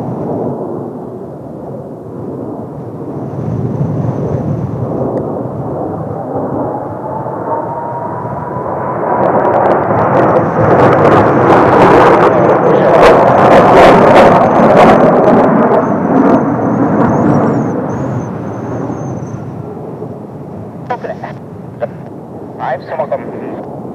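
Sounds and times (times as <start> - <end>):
jet aircraft passing by: 0.0 - 23.9
jet noise crackles: 2.2 - 23.9.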